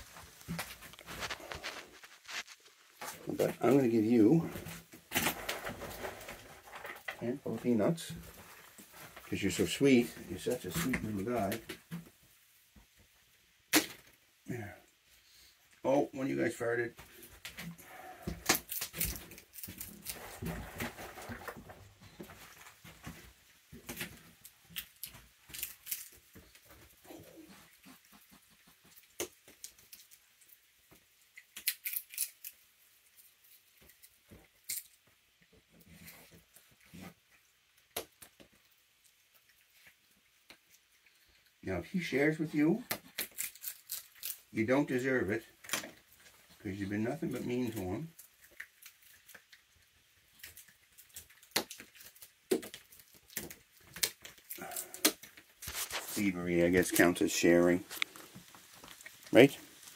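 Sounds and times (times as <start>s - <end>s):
animals chewing peanuts: 0.0s - 11.8s, 17.0s - 59.9s
rustling: 0.0s - 13.0s, 16.7s - 59.9s.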